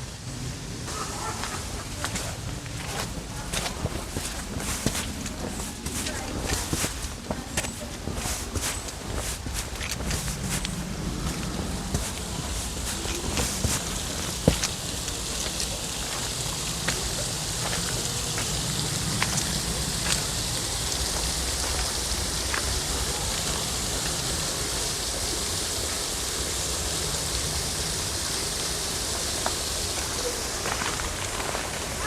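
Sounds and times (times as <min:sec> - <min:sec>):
falling splashing water: 0:00.4 - 0:32.0.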